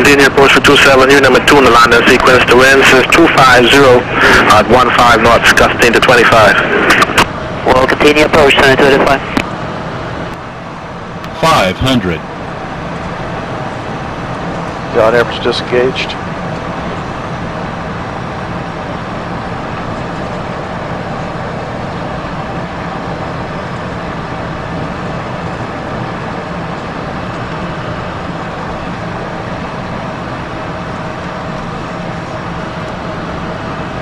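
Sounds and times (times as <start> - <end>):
airflow rushing over aircraft: 0.0 - 34.0
jet engines humming: 0.0 - 34.0.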